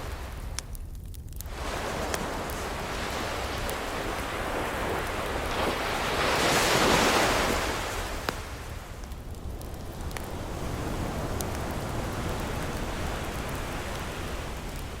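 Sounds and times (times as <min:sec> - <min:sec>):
fireplace crackle pops: 0:00.0 - 0:15.0
ocean wave breaking: 0:01.5 - 0:15.0.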